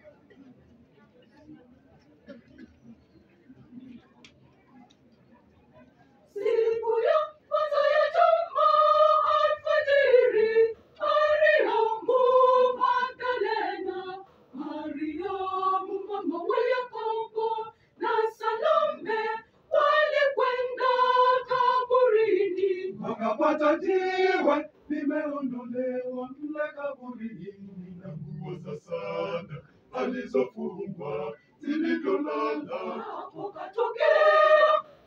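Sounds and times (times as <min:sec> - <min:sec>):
choir singing a hymn: 0:06.4 - 0:35.0.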